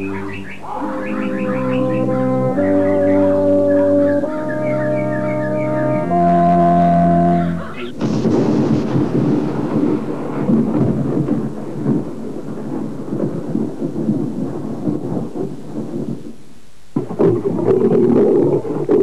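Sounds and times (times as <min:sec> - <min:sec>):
rolling thunder rumble: 0:00.0 - 0:19.0.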